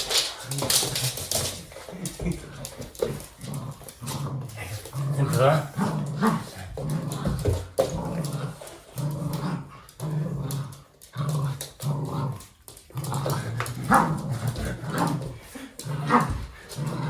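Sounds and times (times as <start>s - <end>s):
knocks and scuffles of play: 0.0s - 9.4s, 12.4s - 17.0s
small dog play-growling: 0.0s - 17.0s.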